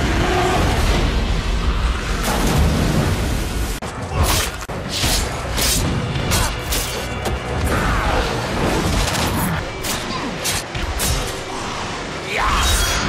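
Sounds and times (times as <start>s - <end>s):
dramatic film score: 0.0s - 13.0s.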